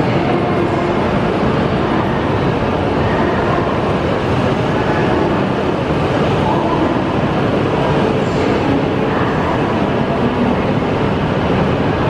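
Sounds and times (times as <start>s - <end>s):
train rumbling at station: 0.0s - 12.0s.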